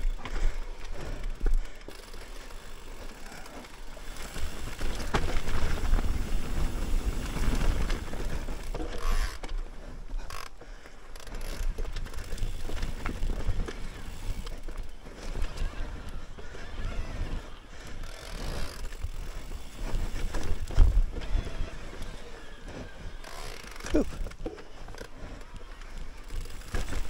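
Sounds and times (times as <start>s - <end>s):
tyres rolling over dirt and rock: 0.0s - 10.3s, 11.3s - 27.0s
bike rattling and clicking: 0.0s - 27.0s.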